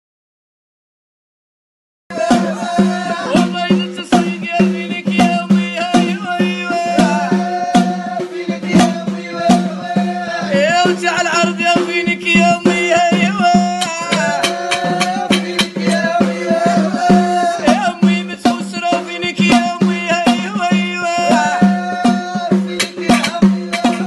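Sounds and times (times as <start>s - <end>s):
hand drum rhythm: 2.1s - 24.0s
man singing: 2.1s - 24.0s.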